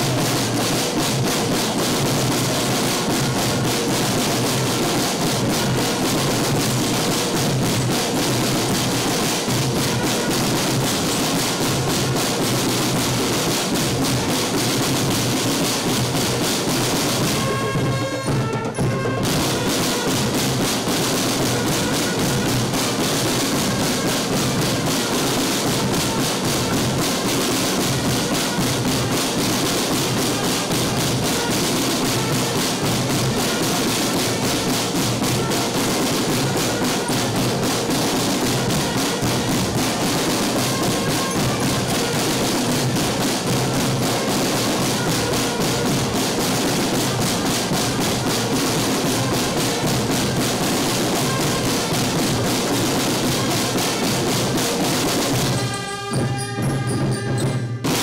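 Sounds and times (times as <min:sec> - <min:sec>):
marching drum cadence: 0:00.0 - 0:58.0.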